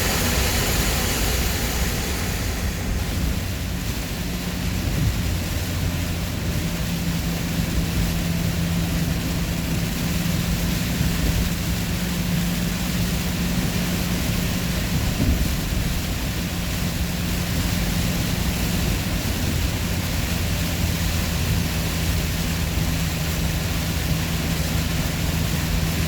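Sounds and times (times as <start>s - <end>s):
engine drone: 0.0s - 26.0s
wind noise: 0.0s - 26.0s.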